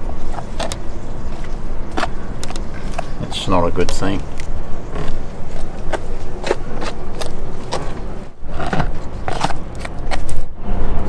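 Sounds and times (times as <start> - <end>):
sharp clicks and scrapes: 0.0 - 10.5
low steady rumble: 0.0 - 11.0.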